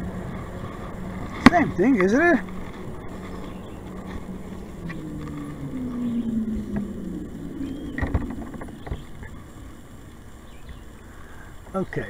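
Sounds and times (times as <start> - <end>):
motorboat engine passing: 0.0 - 11.1.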